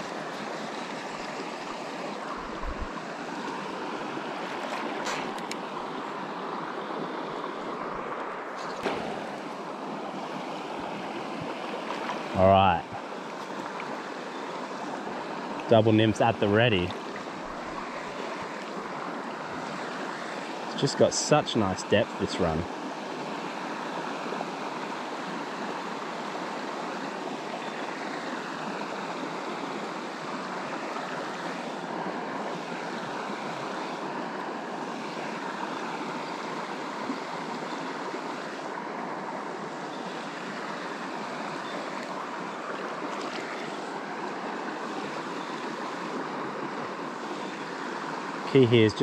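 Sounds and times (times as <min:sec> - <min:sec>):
river flowing over stones: 0:00.0 - 0:49.0.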